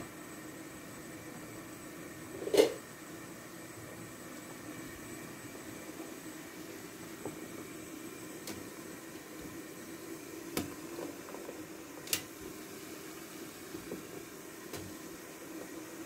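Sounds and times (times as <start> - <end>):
steamer pot heating on stove: 0.0 - 16.0.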